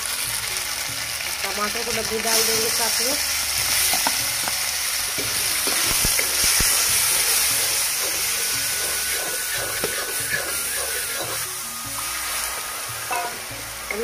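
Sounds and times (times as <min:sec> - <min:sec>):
tomatoes sizzling in hot oil: 0:00.0 - 0:14.0.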